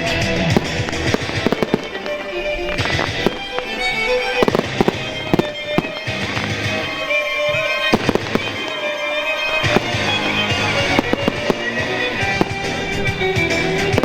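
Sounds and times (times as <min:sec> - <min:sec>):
fireworks banging: 0:00.0 - 0:14.0
music: 0:00.0 - 0:14.0.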